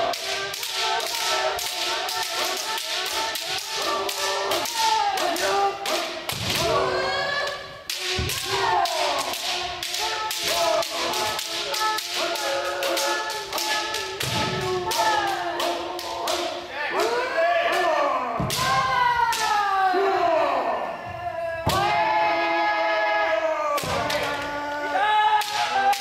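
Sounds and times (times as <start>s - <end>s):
people yelling: 0.0s - 26.0s.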